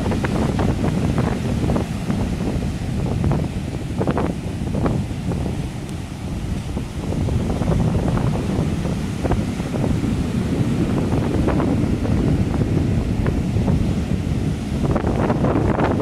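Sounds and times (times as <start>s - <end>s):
ocean surf breaking: 0.0s - 16.0s
wind buffeting the microphone: 0.0s - 16.0s.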